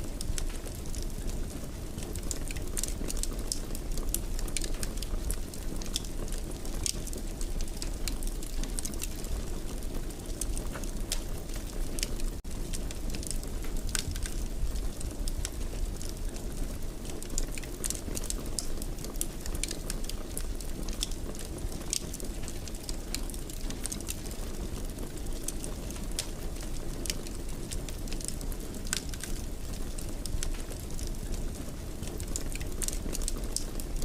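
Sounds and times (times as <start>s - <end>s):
fire crackling in fireplace: 0.0s - 34.0s.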